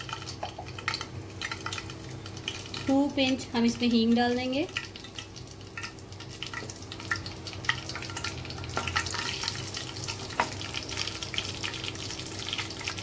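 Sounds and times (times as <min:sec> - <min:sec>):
seeds sizzling and popping in oil: 0:00.0 - 0:13.0.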